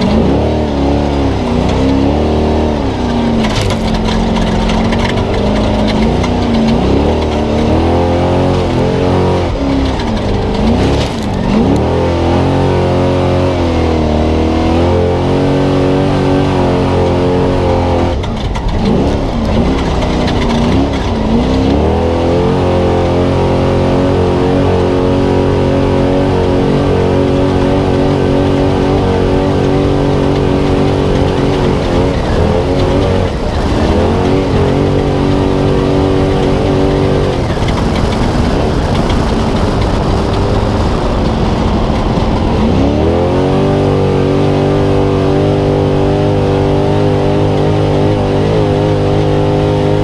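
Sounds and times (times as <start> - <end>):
road and wind noise: 0.0 - 50.0
truck engine revving: 0.0 - 50.0.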